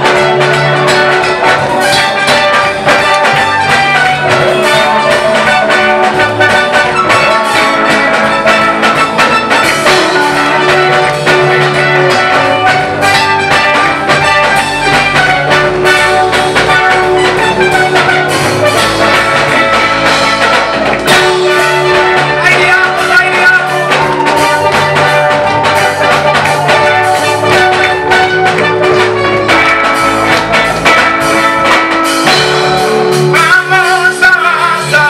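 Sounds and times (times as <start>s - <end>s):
church band playing praise music: 0.0s - 35.0s
steady drum beat: 0.0s - 35.0s.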